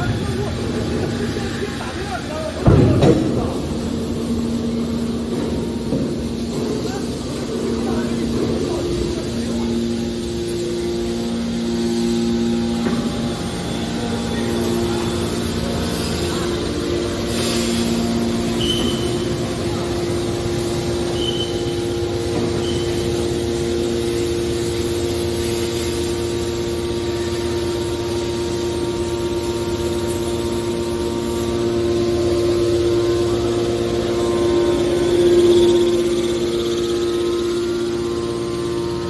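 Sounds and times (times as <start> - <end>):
machine drone and hum: 0.0 - 39.0.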